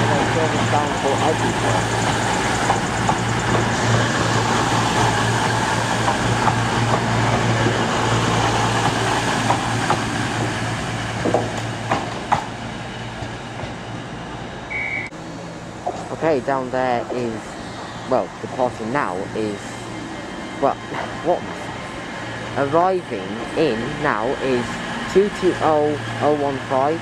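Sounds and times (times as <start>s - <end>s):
diesel engines humming: 0.0s - 27.0s
train rumbling: 0.0s - 27.0s.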